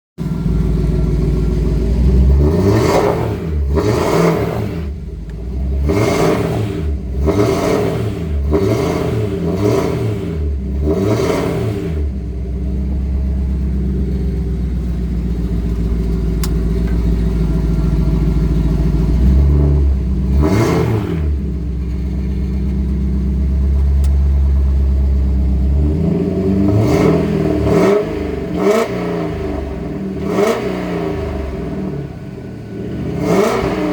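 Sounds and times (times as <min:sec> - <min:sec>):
truck engine revving: 0:00.2 - 0:33.9.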